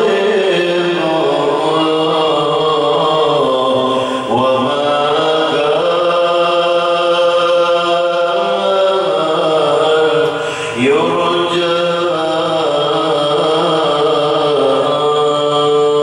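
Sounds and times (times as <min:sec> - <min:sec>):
man chanting devotional song: 0:00.0 - 0:16.0.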